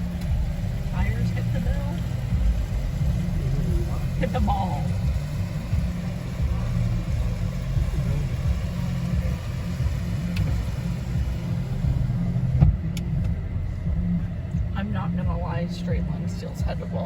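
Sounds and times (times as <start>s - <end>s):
car-wash machinery rumble: 0.0s - 17.0s.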